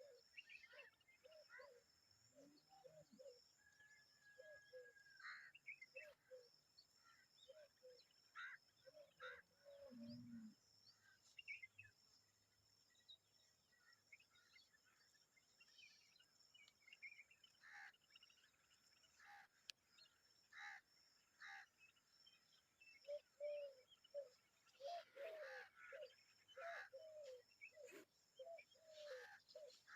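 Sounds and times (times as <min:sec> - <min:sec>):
birds chirping faintly: 0:05.5 - 0:29.9.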